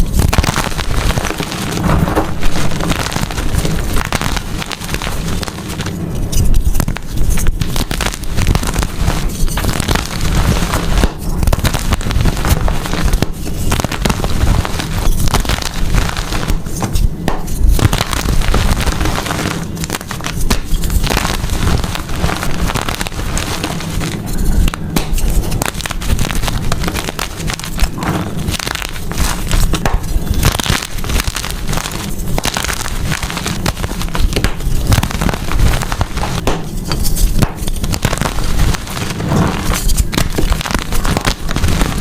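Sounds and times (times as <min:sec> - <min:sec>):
chalk crushing crunches: 0:00.0 - 0:42.0.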